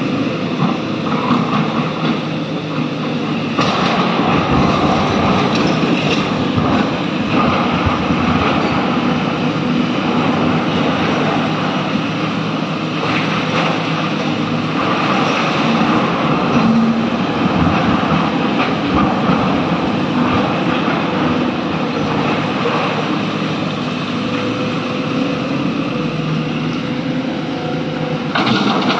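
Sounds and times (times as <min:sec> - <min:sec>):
excavator diesel engine under load: 0:00.0 - 0:28.9
hydraulics working: 0:00.0 - 0:28.9.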